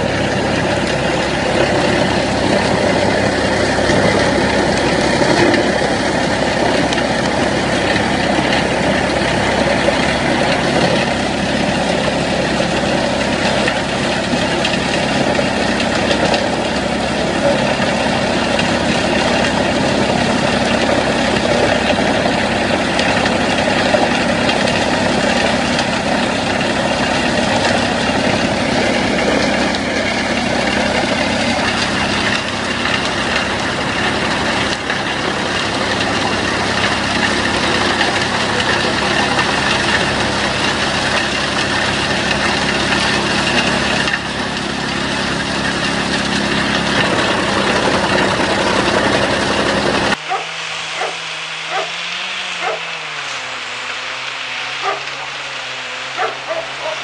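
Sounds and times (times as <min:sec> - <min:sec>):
heavy machine engine roaring: 0:00.0 - 0:57.0.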